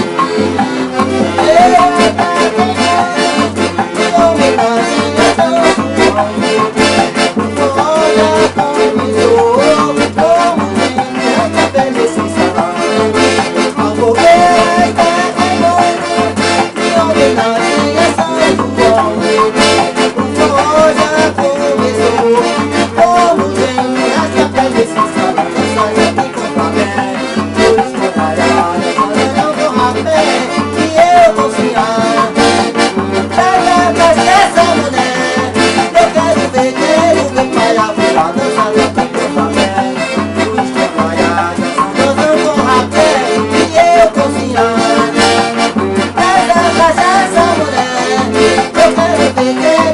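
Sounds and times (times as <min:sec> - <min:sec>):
accordion playing lively tune: 0:00.0 - 0:49.9.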